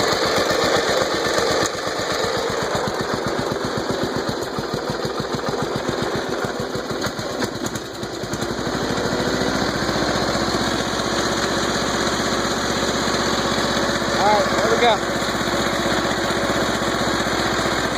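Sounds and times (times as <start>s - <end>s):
lawn mower engine chugging: 0.0s - 17.9s.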